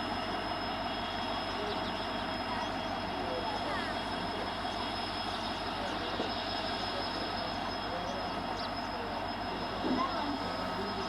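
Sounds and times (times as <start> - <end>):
diesel locomotive engine humming: 0.0 - 11.0.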